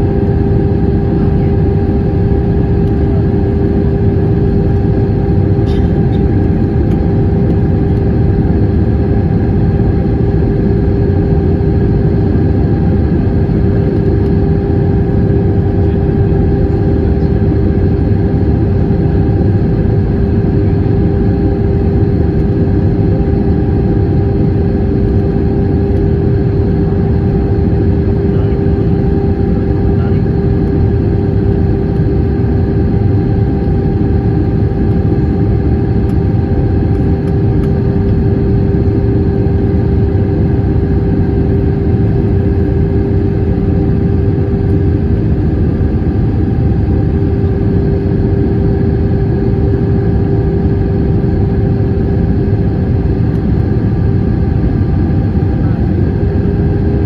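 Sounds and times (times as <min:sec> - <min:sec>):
airplane cabin rumble: 0:00.0 - 0:57.0
constant hum: 0:00.0 - 0:57.0.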